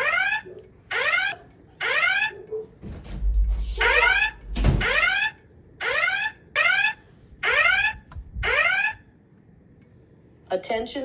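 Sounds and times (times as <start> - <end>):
fire alarm rising sweep tones: 0.0 - 9.1.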